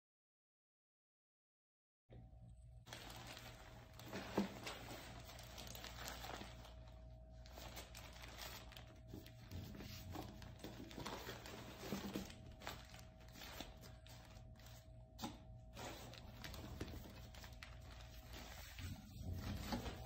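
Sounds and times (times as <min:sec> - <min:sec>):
faint steady hum: 0:02.1 - 0:20.0
plastic bags crinkling: 0:02.9 - 0:20.0.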